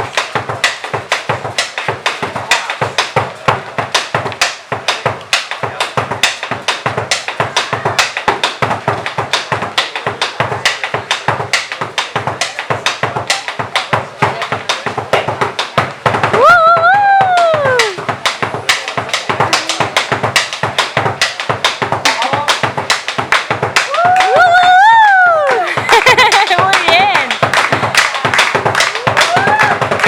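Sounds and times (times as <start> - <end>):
drum beats: 0.0 - 30.0
foot stamping on wooden floor: 0.0 - 30.0.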